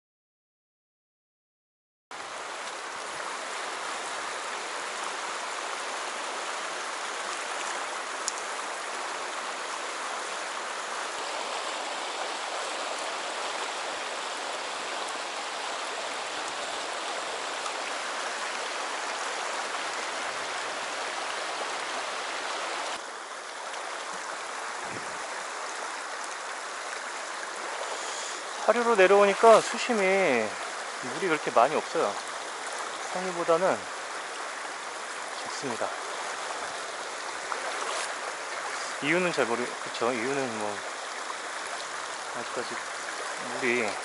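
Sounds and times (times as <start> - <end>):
stream rushing over stones: 2.1 - 44.0.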